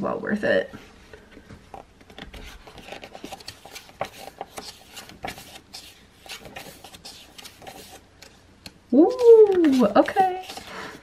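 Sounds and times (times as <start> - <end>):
pages rustling: 1.1 - 11.0
hands brushing over pages: 1.3 - 8.4, 9.2 - 11.0.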